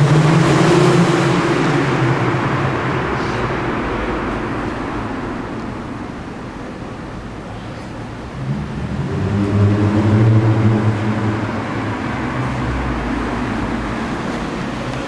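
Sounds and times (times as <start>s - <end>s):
car exhaust rumble: 0.0s - 15.0s.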